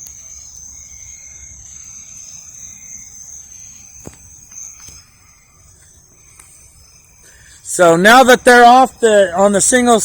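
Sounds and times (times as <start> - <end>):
insect chirring: 0.0 - 10.0.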